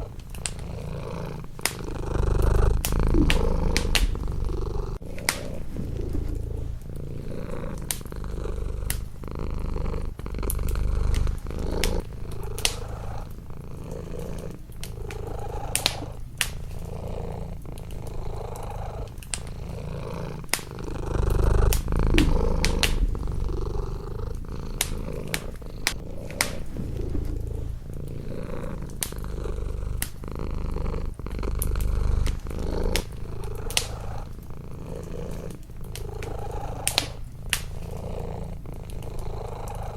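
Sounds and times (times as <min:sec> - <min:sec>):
wood fire crackling: 0:00.0 - 0:39.7
cat purring: 0:00.0 - 0:39.9.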